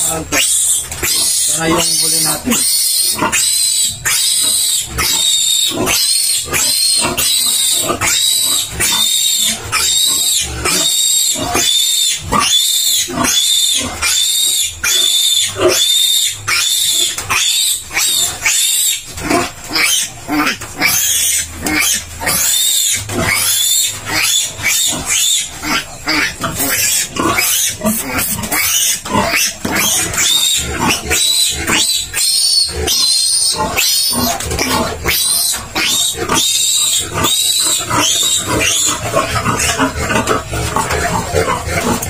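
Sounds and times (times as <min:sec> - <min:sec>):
piglet squealing: 0:00.0 - 0:42.0.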